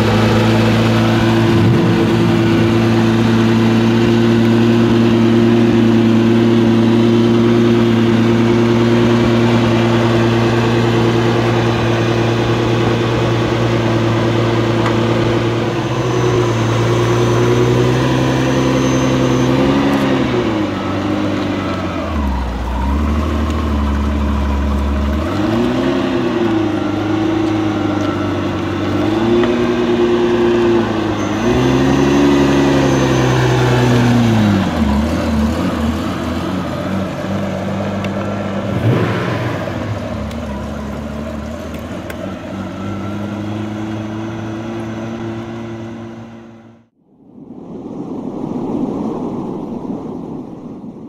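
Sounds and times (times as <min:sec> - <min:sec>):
sports car engine revving: 0:00.0 - 0:46.9.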